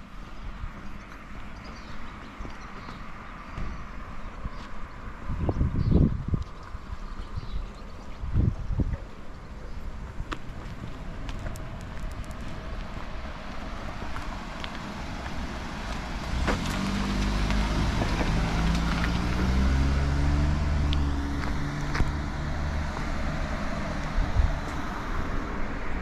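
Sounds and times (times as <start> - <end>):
road traffic: 0.0 - 26.0
vehicle engine running nearby: 0.0 - 26.0.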